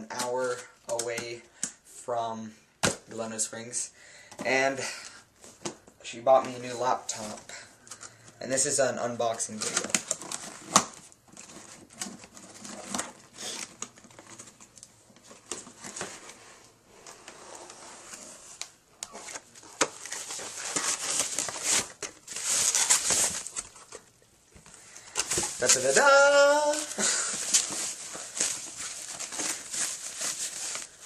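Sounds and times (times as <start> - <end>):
cardboard and plastic packaging rustling: 5.4 - 31.0.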